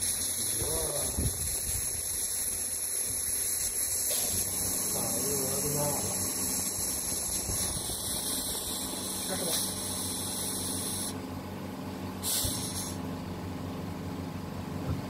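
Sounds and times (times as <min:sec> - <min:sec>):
machine electrical hum and hiss: 0:00.0 - 0:15.0.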